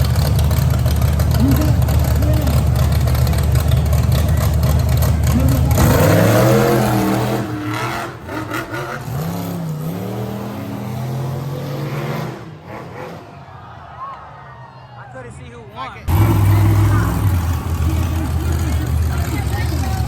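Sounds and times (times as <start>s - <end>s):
monster truck engines revving: 0.0s - 14.6s, 16.0s - 20.0s.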